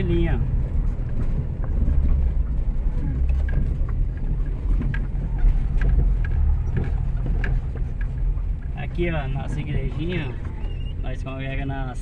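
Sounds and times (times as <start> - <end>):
car engine and tyres rumbling: 0.0 - 12.0
light knocks and rattles: 0.2 - 11.0.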